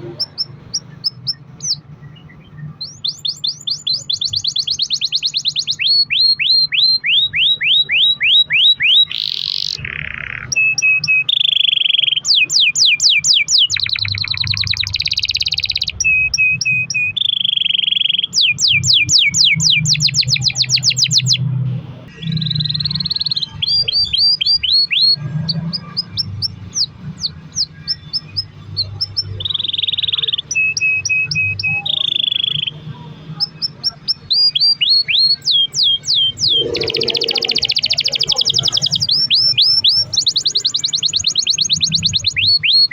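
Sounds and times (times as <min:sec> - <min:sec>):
canary singing: 0:00.0 - 0:42.9.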